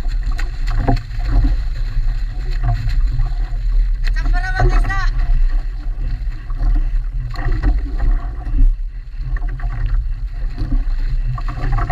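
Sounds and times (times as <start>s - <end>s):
fish thrashing in water: 0.0s - 11.9s
low wind rumble on microphone: 0.0s - 11.9s
water splashing against boat hull: 0.0s - 11.9s.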